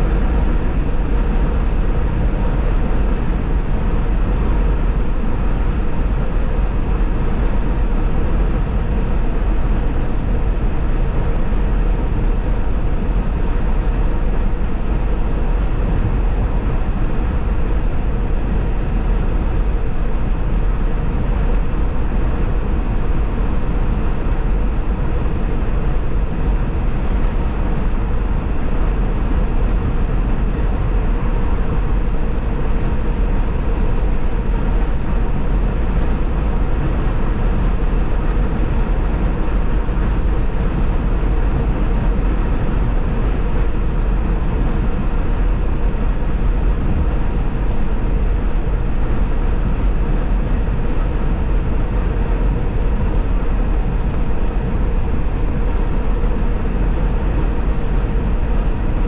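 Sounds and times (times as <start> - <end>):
vehicle road rumble: 0.0 - 59.0.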